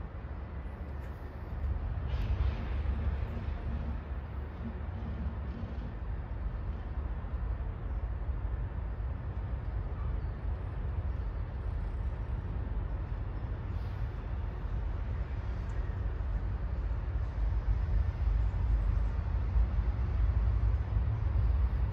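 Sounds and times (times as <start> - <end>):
urban background rumble: 0.0 - 21.9.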